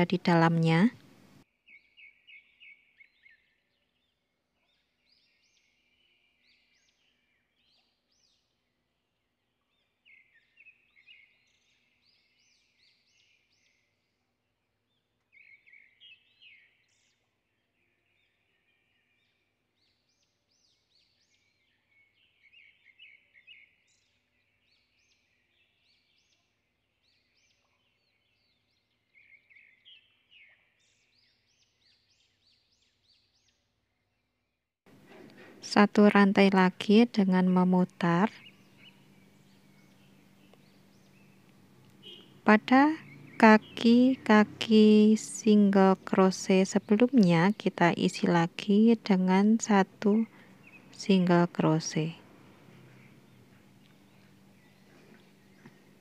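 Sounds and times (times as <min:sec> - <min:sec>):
songbird chirping: 0:00.0 - 0:34.3, 0:35.3 - 0:56.0.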